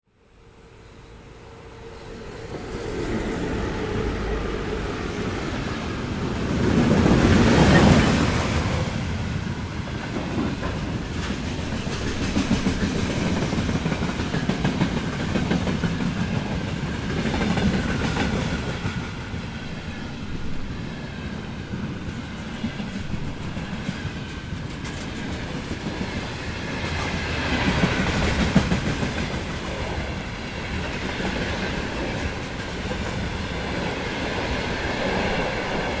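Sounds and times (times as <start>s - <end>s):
freight train wagons rumbling: 1.6s - 36.0s.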